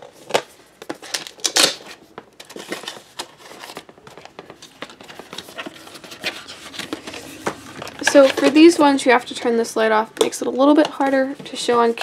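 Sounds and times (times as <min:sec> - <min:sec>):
paper and cardboard rustling: 0:00.0 - 0:09.5, 0:10.8 - 0:12.0.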